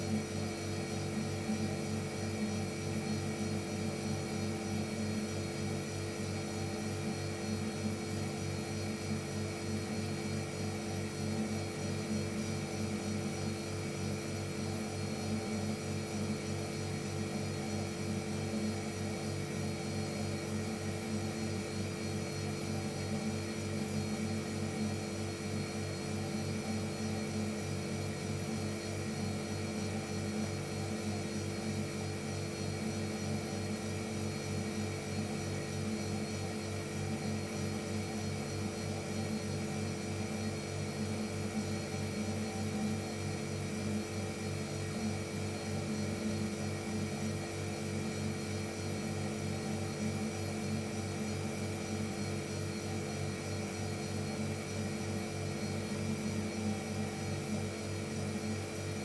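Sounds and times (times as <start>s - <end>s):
refrigerator compressor humming: 0.0s - 59.0s.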